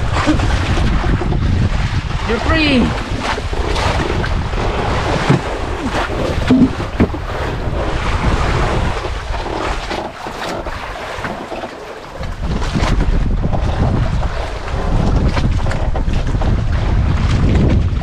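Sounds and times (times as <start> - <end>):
waves washing: 0.0 - 18.0
wind buffeting microphone: 0.0 - 18.0.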